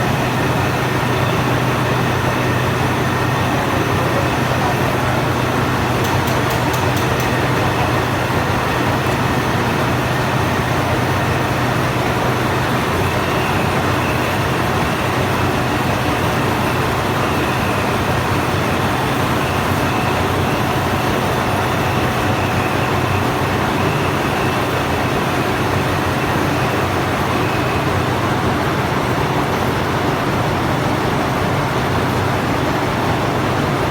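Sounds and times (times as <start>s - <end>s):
lathe running: 0.0s - 33.9s.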